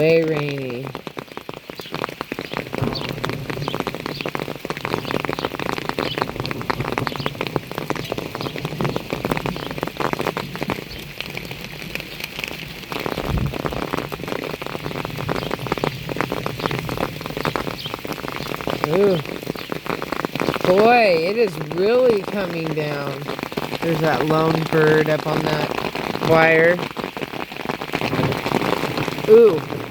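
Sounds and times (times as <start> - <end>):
rain pattering on umbrella: 0.0 - 29.9.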